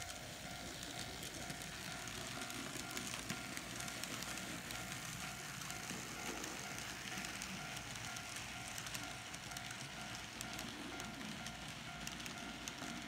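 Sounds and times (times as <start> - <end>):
model train motor whine: 0.0 - 13.0
wheels clicking on rails: 0.0 - 13.0.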